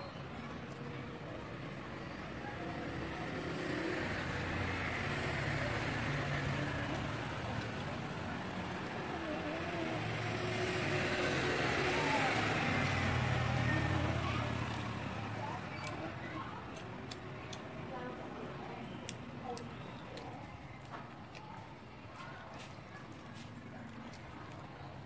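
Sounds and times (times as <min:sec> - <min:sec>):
traffic engine drone: 0:00.0 - 0:25.0.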